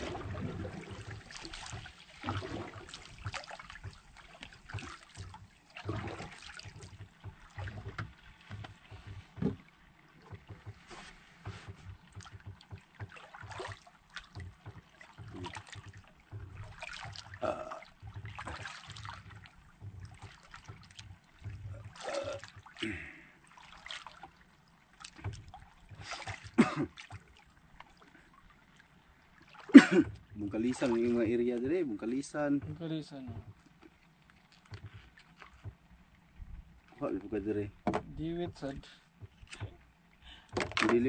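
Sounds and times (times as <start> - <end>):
water splashing against boat hull: 0.0 - 41.0.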